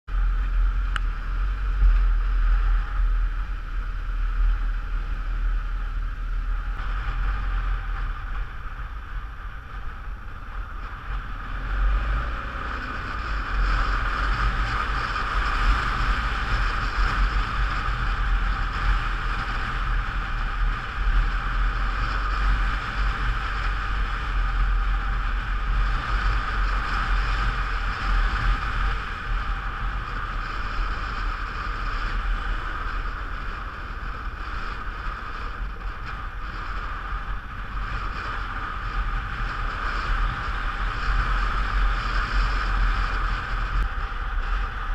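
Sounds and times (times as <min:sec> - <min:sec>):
motorcycle engine and tyres droning: 0:00.0 - 0:44.9.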